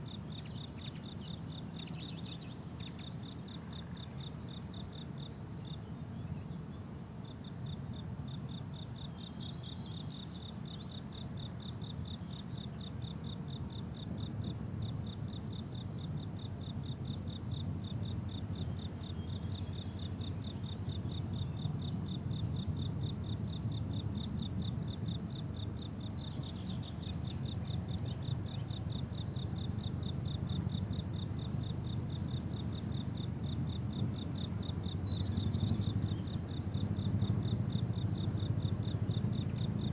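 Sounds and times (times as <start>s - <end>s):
crickets chirping: 0.0s - 39.9s
faint low rumble: 0.0s - 39.9s.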